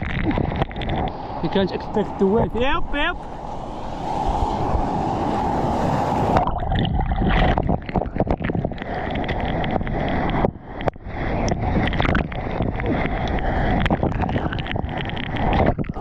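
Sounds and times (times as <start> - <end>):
sea wash: 0.0 - 16.0
water splashing: 0.0 - 16.0
wind buffeting microphone: 0.0 - 16.0.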